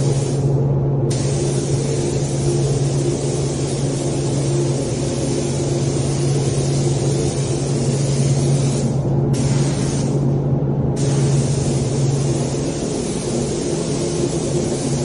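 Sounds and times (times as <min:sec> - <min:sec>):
paint spray gun hissing: 0:00.0 - 0:00.5, 0:01.1 - 0:10.2, 0:11.0 - 0:15.0
steady low hum: 0:00.0 - 0:15.0.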